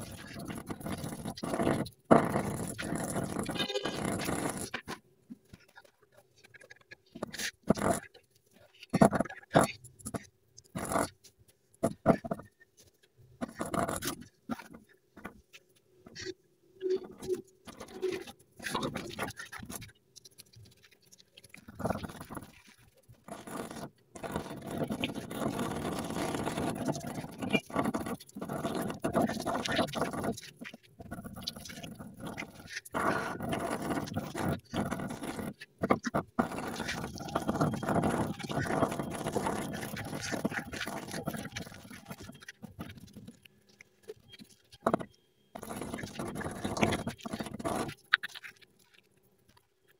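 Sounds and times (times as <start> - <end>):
brush scrubbing wet resin: 0.0 - 16.3, 17.0 - 49.6.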